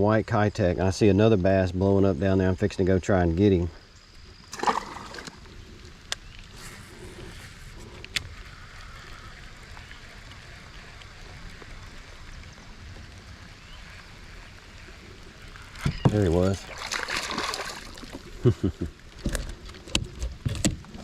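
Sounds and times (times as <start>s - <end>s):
light rain on water: 4.0s - 21.0s.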